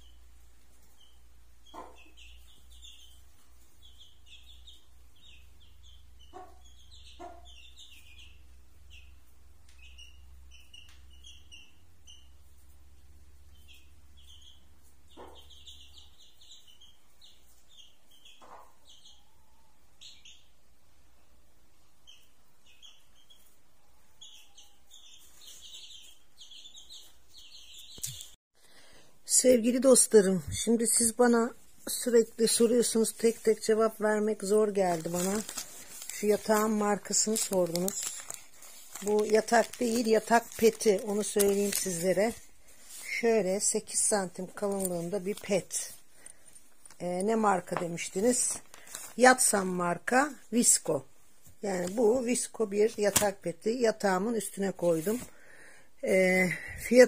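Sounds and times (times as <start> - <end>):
chicks peeping: 0.0 - 20.7, 21.7 - 29.0, 30.6 - 49.4.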